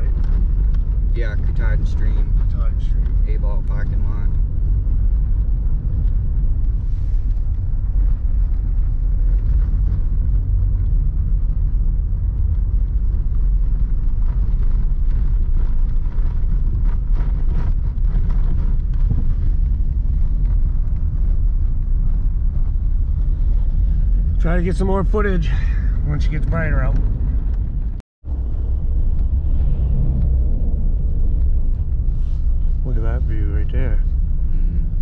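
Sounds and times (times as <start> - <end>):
truck engine rumble: 0.0 - 35.0.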